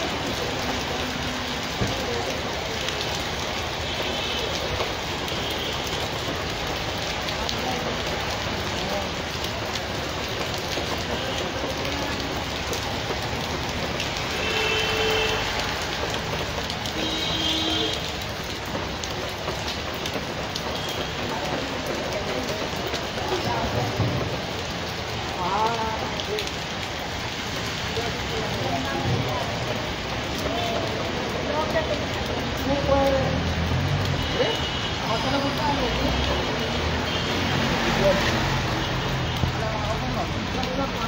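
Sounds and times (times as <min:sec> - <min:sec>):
heavy rain on wet street: 0:00.0 - 0:41.0.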